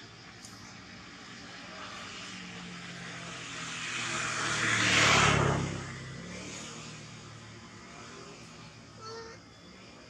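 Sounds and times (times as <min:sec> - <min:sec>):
road noise: 0:00.0 - 0:10.0
vehicle engine hum passing by: 0:00.0 - 0:10.0.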